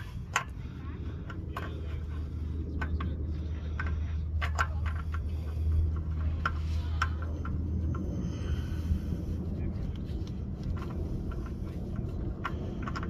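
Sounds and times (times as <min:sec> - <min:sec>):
oil filter clicks and scrapes: 0:00.0 - 0:13.0
steady low hum: 0:00.0 - 0:13.0.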